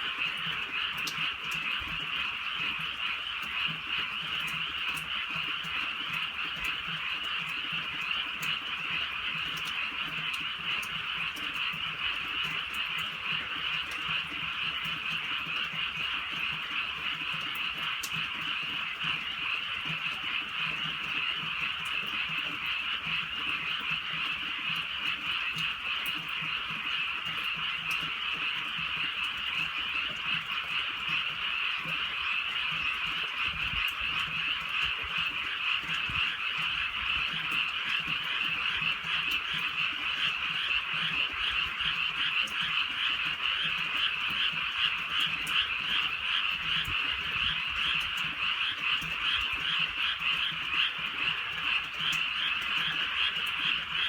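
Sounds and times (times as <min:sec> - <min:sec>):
chorus of frogs calling: 0:00.0 - 0:54.0
light rain ticking: 0:00.0 - 0:54.0.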